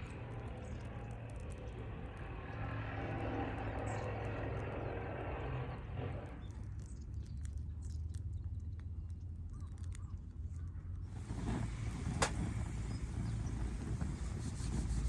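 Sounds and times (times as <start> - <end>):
fire crackling and popping: 0.0 - 10.1, 11.0 - 15.0
low fire rumble: 0.0 - 15.0.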